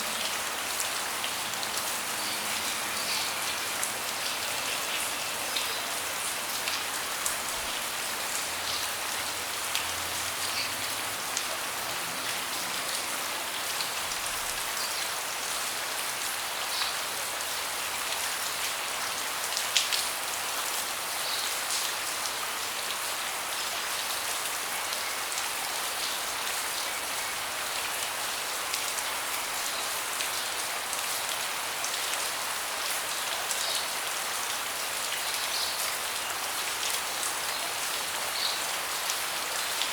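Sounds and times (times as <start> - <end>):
rain falling on a deck: 0.0 - 39.9.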